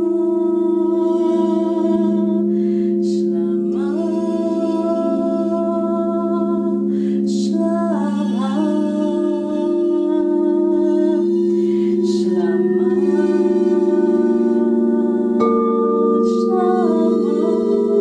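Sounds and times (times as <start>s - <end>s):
singing bowls ringing: 0.0s - 18.0s
woman chanting: 0.0s - 18.0s.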